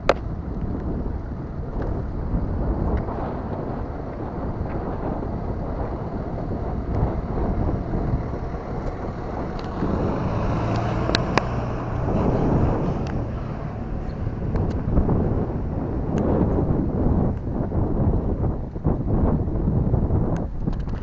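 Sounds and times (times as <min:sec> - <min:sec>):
bicycle riding rumble: 0:00.0 - 0:21.0
wind buffeting microphone: 0:00.0 - 0:21.0.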